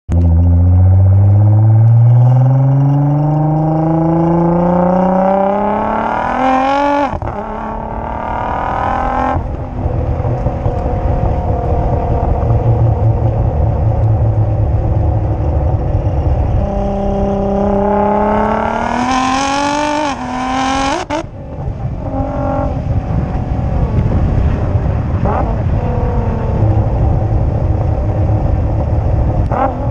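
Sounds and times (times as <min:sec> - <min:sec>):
car engine accelerating hard: 0:00.1 - 0:29.9.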